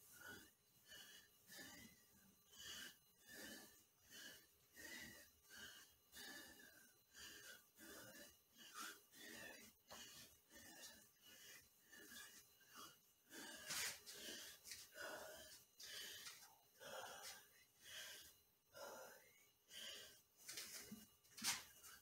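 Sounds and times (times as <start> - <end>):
man breathing heavily: 0.0 - 22.0.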